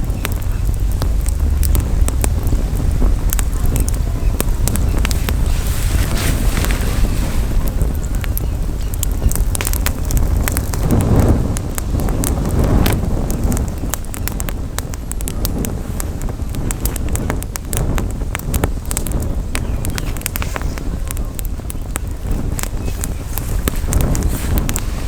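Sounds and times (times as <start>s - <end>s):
campfire crackling and popping: 0.0s - 25.0s
wind buffeting microphone: 0.0s - 25.0s.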